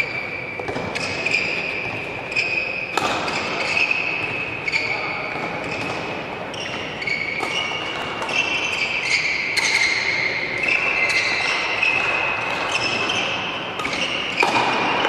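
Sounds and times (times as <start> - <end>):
racket hitting shuttlecock: 0.1 - 15.0.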